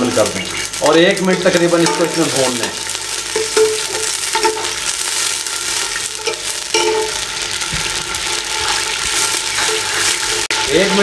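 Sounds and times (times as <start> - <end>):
spices sizzling in hot oil: 0.0 - 11.0
metal spoon stirring: 1.3 - 11.0.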